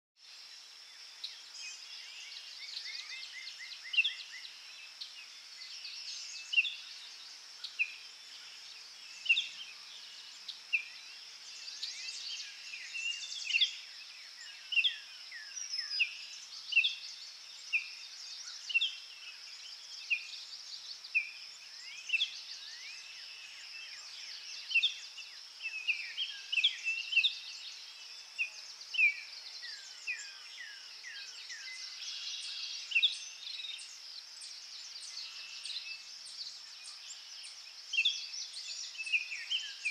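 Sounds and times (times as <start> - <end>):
insect drone: 0.2 - 39.9.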